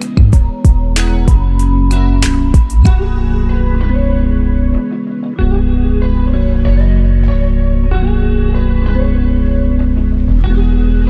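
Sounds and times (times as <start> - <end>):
guitar music: 0.0 - 11.0
steady low bass pulse: 0.1 - 11.0.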